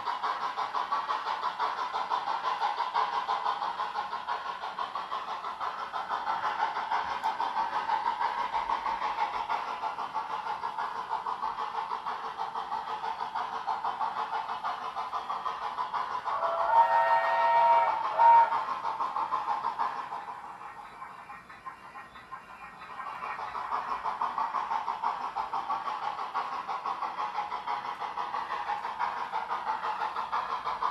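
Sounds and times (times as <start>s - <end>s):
model locomotive steam chuffs: 0.0s - 30.9s.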